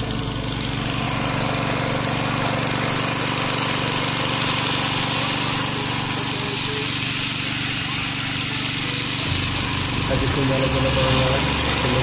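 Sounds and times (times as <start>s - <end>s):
water pump engine running: 0.0s - 12.0s.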